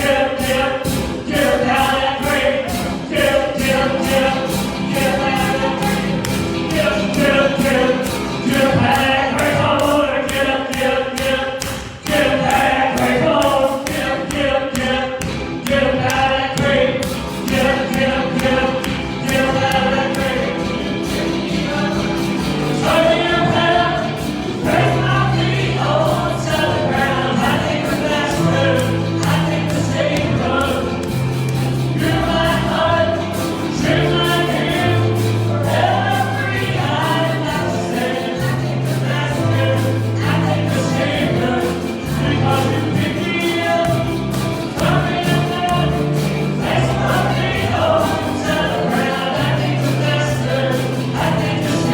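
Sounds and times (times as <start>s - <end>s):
group singing a hymn: 0.0s - 51.9s
instrumental accompaniment: 0.0s - 51.9s.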